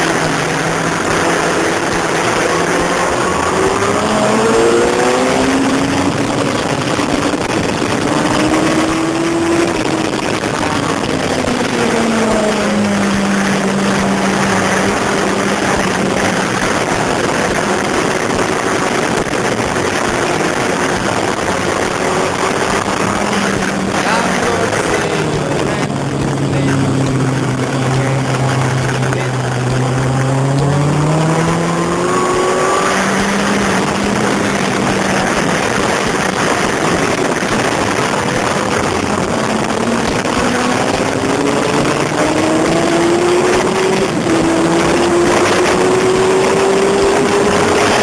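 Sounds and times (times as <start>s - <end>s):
motorcycle engine revving: 0.0s - 48.0s
wind rush on microphone: 0.0s - 48.0s.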